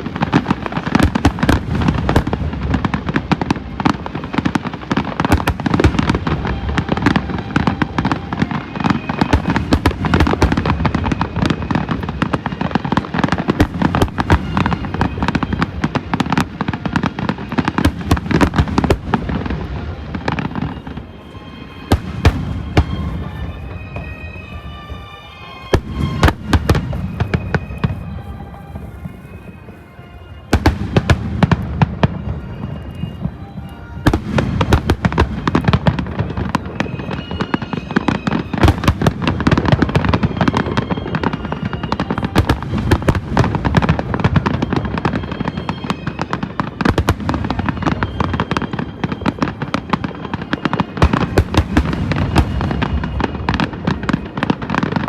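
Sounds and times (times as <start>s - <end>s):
fireworks bursting and crackling: 0.0s - 55.0s
music: 0.0s - 55.0s.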